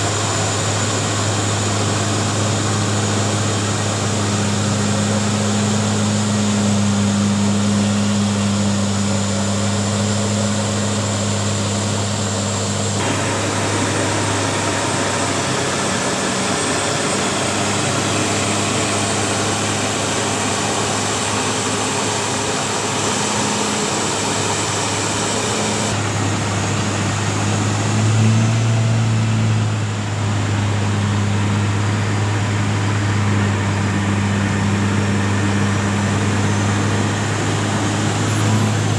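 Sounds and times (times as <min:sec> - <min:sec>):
milling machinery running: 0:00.0 - 0:38.9.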